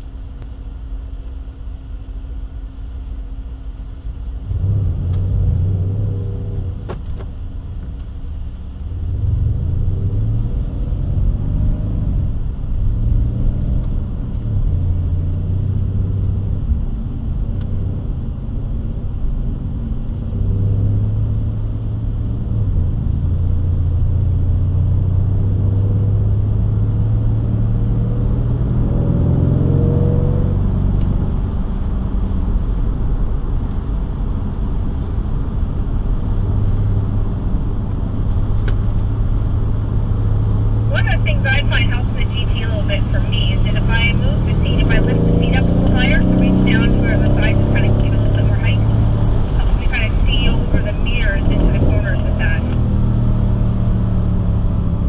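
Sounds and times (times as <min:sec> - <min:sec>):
car engine accelerating: 0:04.4 - 0:55.0.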